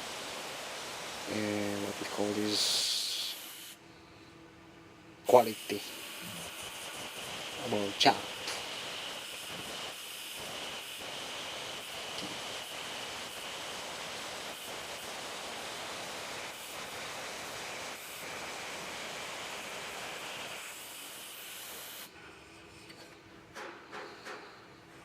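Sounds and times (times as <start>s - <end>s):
electric arc hissing and crackling: 0.0s - 3.8s, 5.3s - 22.1s.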